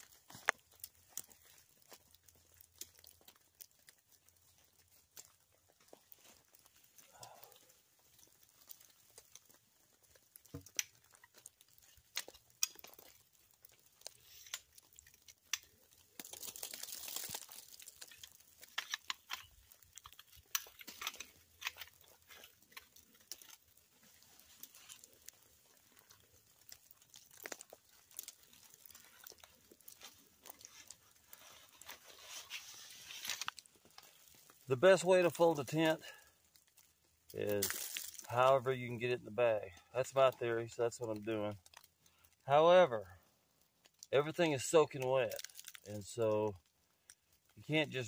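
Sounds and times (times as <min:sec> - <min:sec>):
rustling of wet tent fabric: 0:00.0 - 0:39.2.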